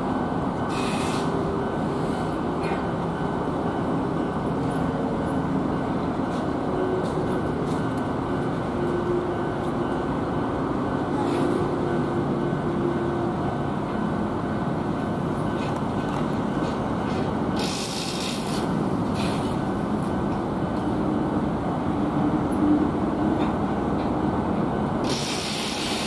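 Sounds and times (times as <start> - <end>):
distant electric train running: 0.0 - 26.0.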